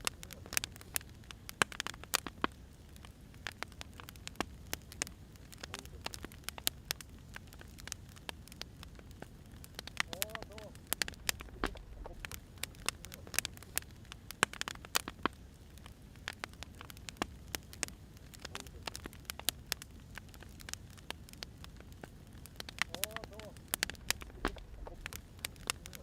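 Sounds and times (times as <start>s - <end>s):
firewood crackling and popping: 0.0s - 26.0s
low steady rumble: 2.5s - 14.4s, 15.2s - 26.0s.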